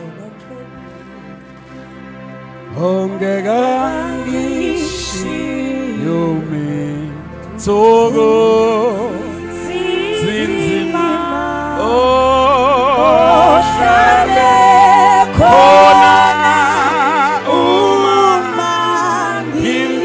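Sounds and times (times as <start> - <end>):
sustained accompaniment: 0.0 - 20.0
gospel singing: 2.6 - 20.0.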